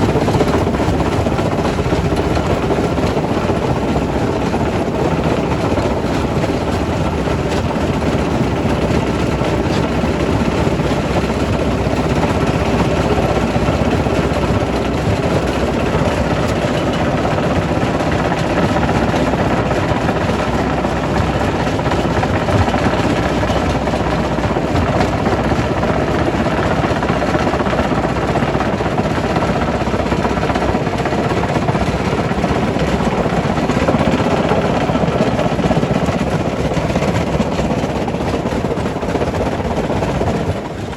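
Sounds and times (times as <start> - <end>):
rock crusher running: 0.0 - 40.9.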